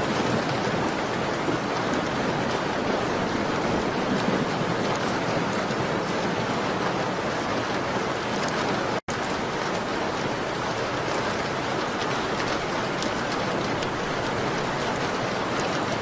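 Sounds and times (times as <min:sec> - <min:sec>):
rain on a window: 0:00.0 - 0:16.0.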